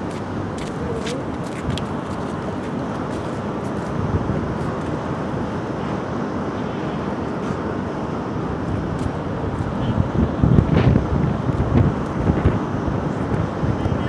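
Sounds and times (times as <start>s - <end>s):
wind buffeting microphone: 0.0s - 6.4s, 7.1s - 14.0s.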